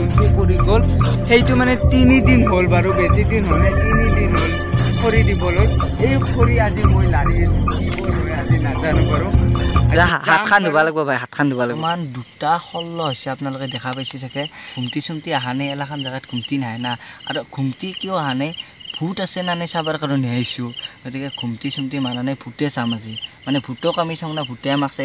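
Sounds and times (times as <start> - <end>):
crickets trilling: 0.0 - 25.0
man speaking: 0.0 - 25.0.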